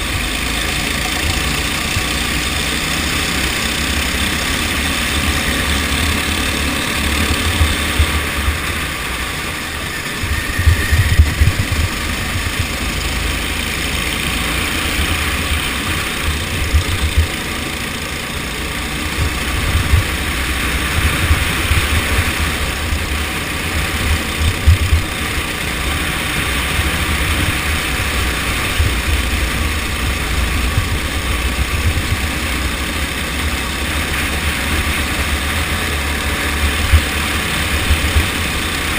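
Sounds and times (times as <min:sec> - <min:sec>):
go-kart engine drone: 0:00.0 - 0:38.9.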